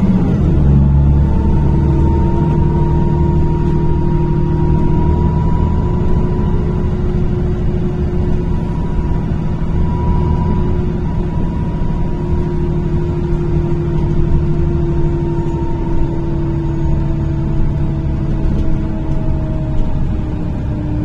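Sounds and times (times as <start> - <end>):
bus engine running: 0.0 - 21.0
drivetrain whine falling in pitch: 0.0 - 21.0.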